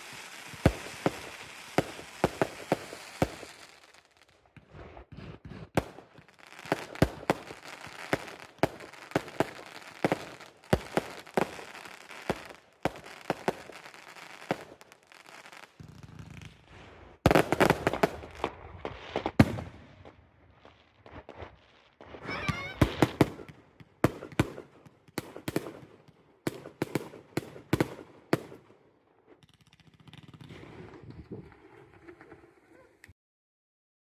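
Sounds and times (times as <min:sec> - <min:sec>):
fireworks bangs: 0:00.0 - 0:28.6.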